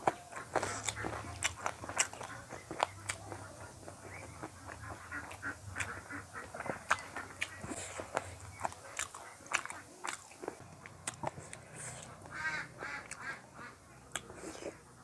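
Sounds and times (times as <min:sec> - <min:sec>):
close chewing with mouth smacks: 0:00.0 - 0:15.0.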